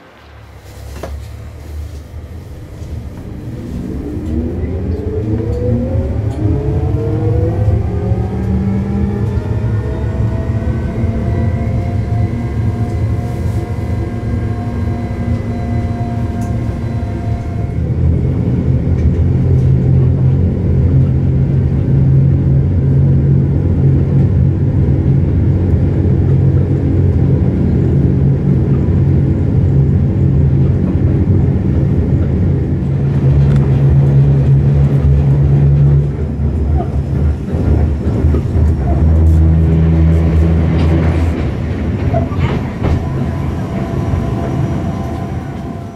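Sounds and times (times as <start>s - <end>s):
train motors droning: 0.0s - 45.9s.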